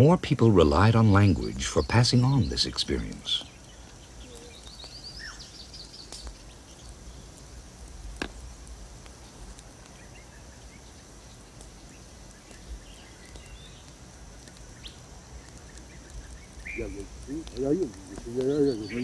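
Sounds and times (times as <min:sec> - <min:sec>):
high insect drone: 0:00.0 - 0:19.0
faint bird chirps: 0:01.0 - 0:07.5, 0:09.2 - 0:14.0, 0:14.7 - 0:19.0.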